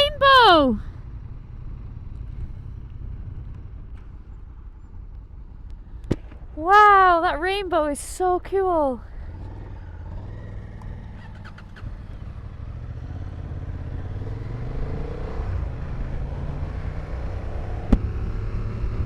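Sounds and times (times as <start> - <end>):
motorcycle engine running: 0.0 - 7.9, 8.7 - 19.0
wind and road noise: 0.0 - 19.0.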